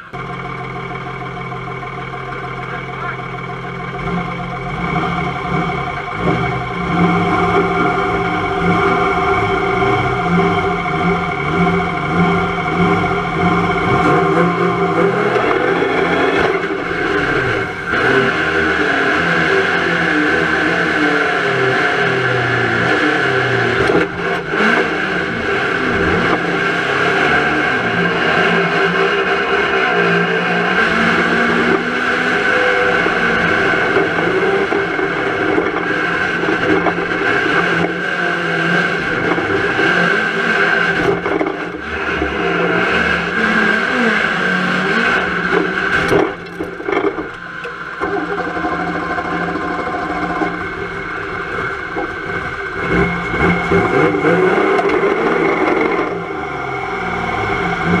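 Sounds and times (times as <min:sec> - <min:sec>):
car engine running and revving: 0:00.0 - 0:58.0.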